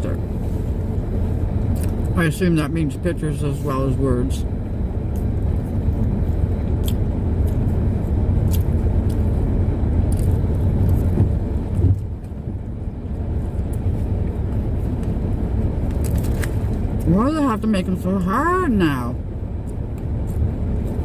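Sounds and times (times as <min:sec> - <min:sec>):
car cabin engine and road rumble: 0:00.0 - 0:21.0.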